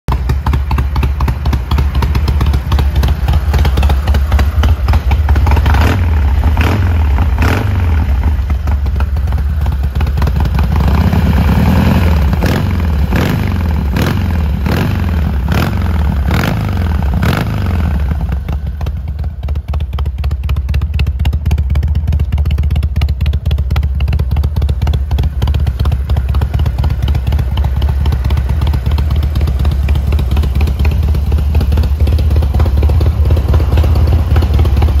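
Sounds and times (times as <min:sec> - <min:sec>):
motorcycle engine revving and idling: 0:00.1 - 0:35.0.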